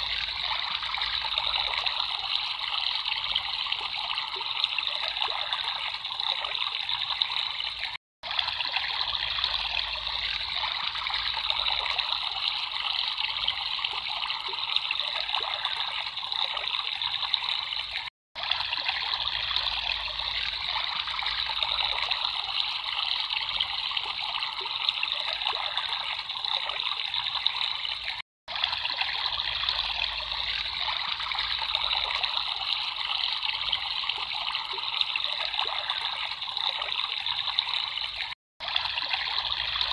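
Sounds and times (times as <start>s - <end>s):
water trickling in stream: 0.0s - 39.9s.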